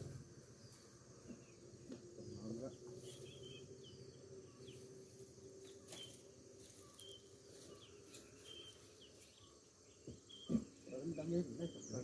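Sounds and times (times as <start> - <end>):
bird chirping: 0.0 - 12.0
high insect drone: 0.0 - 12.0.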